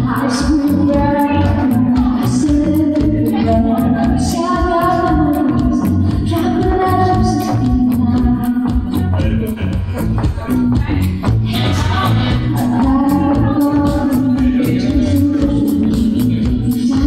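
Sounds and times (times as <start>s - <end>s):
woman singing into microphone: 0.0s - 9.4s, 10.5s - 17.0s.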